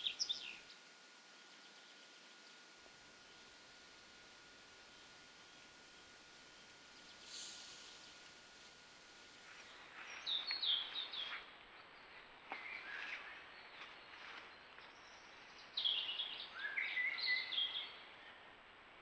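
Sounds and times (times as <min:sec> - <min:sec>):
songbird chirping and warbling: 0:00.0 - 0:08.3, 0:09.5 - 0:11.4, 0:12.5 - 0:18.4.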